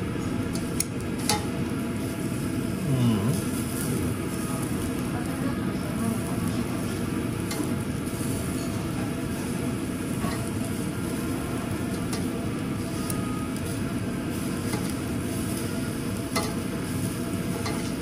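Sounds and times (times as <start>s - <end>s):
meat sizzling on a grill: 0.0s - 18.0s.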